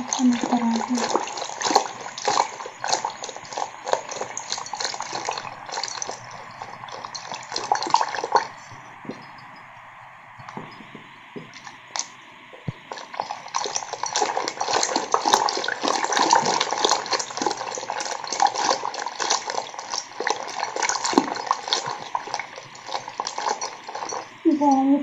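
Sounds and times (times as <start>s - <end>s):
liquid sloshing in steel bowl: 0.0s - 9.7s, 10.4s - 24.6s.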